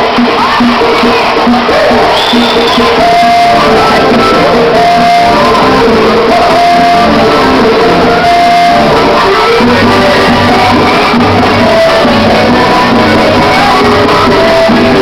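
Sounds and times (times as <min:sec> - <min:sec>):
loud folk dance music: 0:00.0 - 0:15.0.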